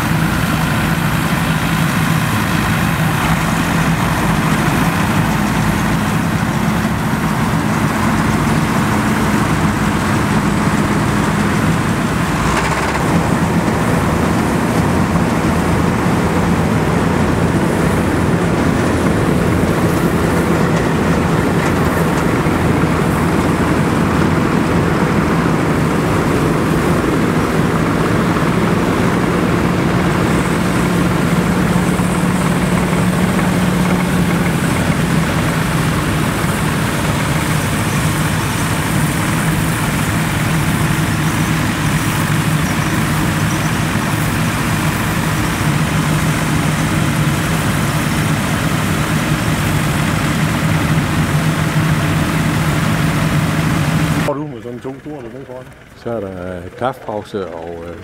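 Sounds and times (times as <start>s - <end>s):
tractors and combines droning: 0.0s - 58.0s.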